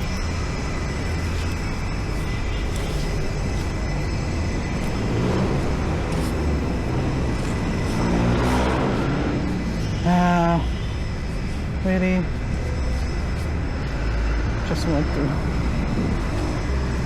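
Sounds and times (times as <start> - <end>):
motorcycle engine running: 0.0 - 14.0
wind and road noise: 0.0 - 17.0.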